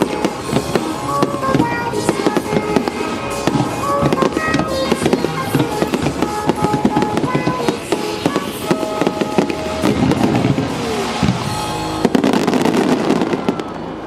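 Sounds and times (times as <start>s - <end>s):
fireworks bursting and crackling: 0.0s - 14.0s
music from loudspeakers: 0.0s - 14.0s.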